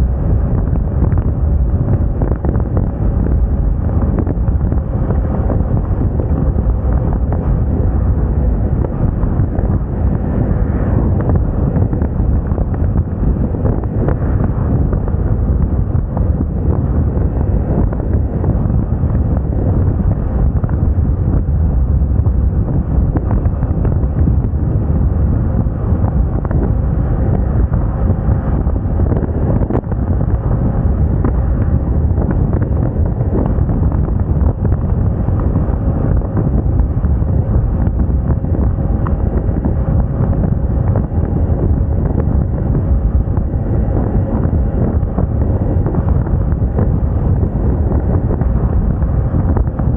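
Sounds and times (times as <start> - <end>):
scooter engine humming: 0.0 - 49.9
wind buffeting microphone: 0.0 - 49.9.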